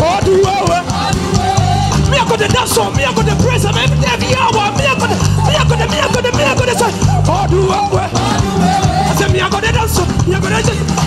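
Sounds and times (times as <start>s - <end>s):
drum kit: 0.0s - 11.0s
electric bass guitar: 0.0s - 11.0s
people singing: 0.0s - 11.0s.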